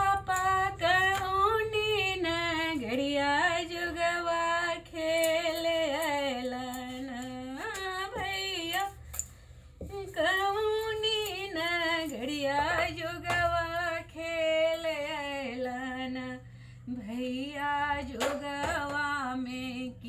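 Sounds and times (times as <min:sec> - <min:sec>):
woman singing alone: 0:00.0 - 0:09.0, 0:09.8 - 0:20.0.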